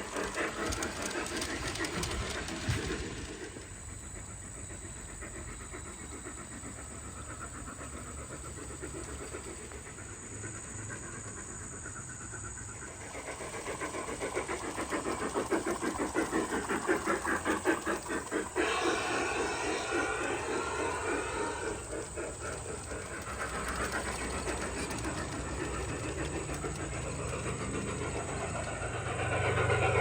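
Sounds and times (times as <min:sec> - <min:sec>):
model steam locomotive chuffing: 0:00.0 - 0:30.0
steam hiss: 0:00.0 - 0:30.0.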